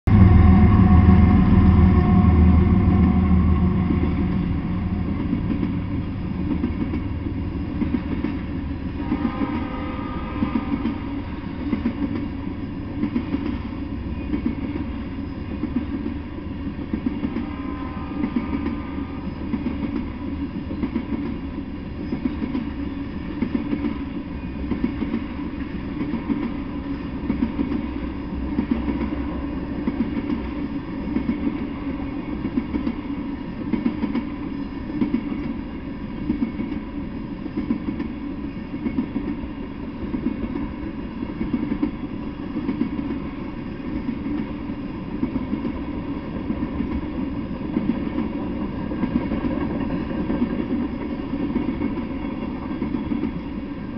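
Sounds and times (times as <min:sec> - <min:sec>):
freight train rumble: 0:00.0 - 0:53.9.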